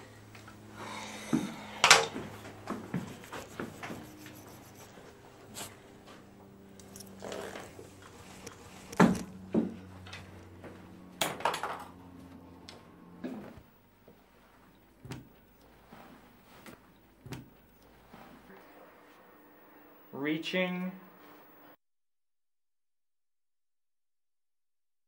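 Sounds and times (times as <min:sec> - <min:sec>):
low steady hum: 0:00.0 - 0:21.8.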